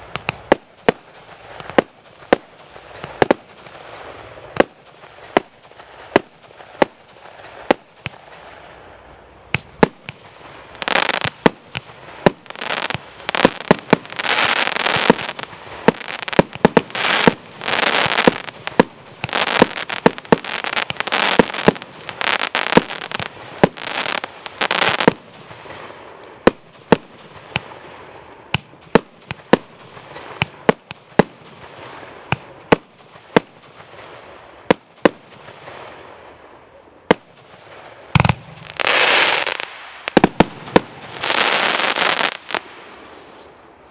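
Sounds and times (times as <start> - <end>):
firework bangs: 0.0 - 8.8, 9.5 - 36.3, 37.1 - 43.4
noisy firework bursts: 0.0 - 43.8.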